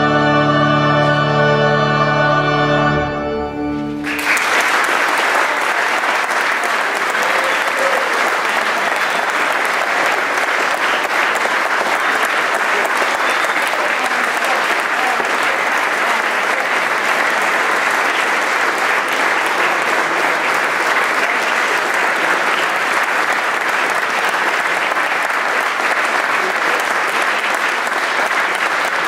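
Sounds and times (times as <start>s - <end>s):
large audience applauding: 4.0s - 29.0s.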